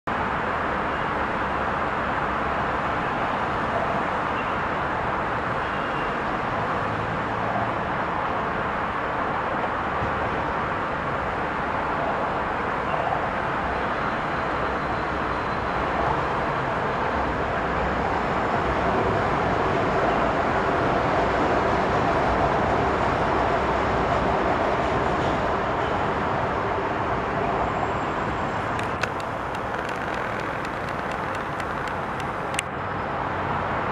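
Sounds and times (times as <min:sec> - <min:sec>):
city rumble: 0:00.1 - 0:33.9
metro train running on track: 0:00.1 - 0:33.9.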